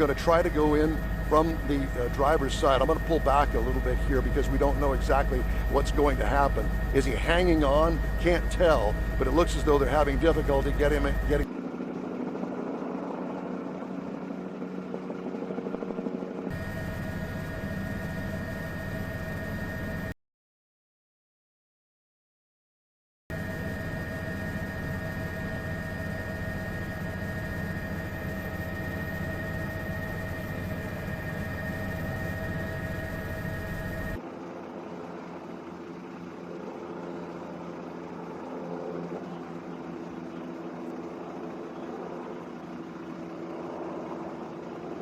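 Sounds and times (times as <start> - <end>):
helicopter engine and rotor drone: 0.0 - 20.2, 23.3 - 45.0.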